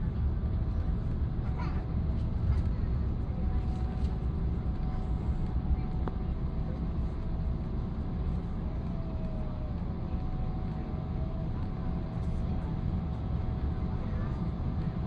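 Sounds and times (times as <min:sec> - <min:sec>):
low rumble inside aircraft cabin: 0:00.0 - 0:15.0
faint wavering whine: 0:00.2 - 0:15.0.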